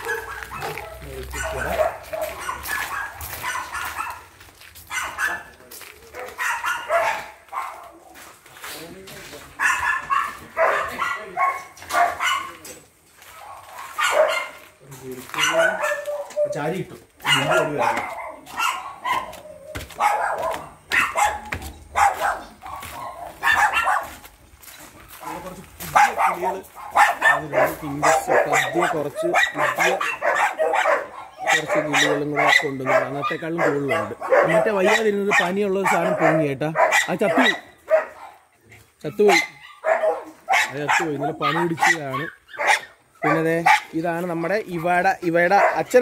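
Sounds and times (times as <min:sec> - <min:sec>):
dog barking: 0:00.0 - 0:08.2, 0:09.5 - 0:24.3, 0:25.2 - 0:46.0.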